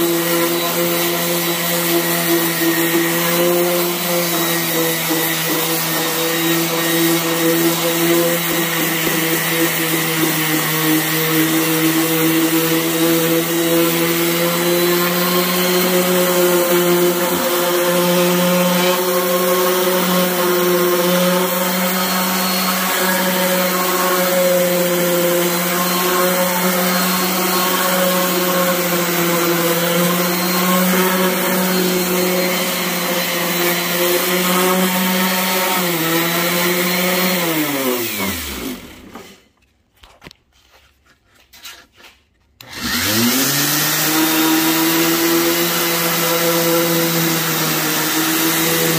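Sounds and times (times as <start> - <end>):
orbital sander on metal: 0.0 - 39.0, 42.7 - 48.9.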